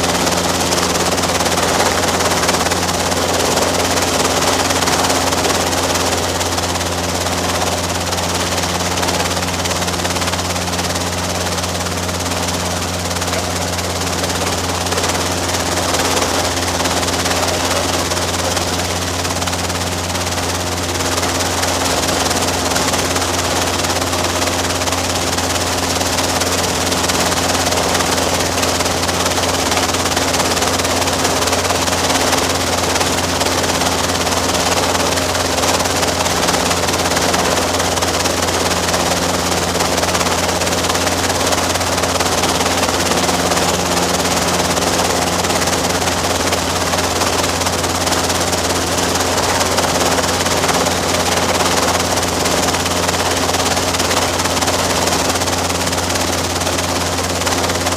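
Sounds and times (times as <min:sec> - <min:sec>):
helicopter rotor and engine drone: 0:00.0 - 0:57.9.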